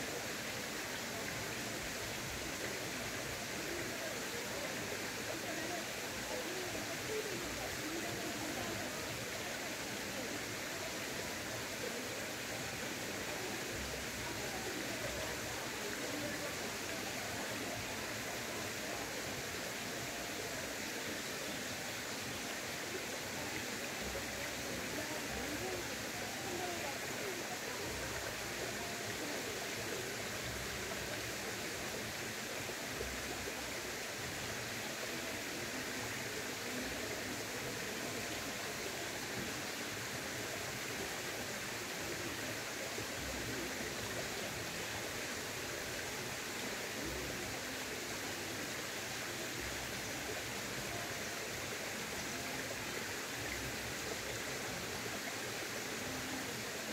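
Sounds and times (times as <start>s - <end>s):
stream rushing: 0.0s - 56.9s.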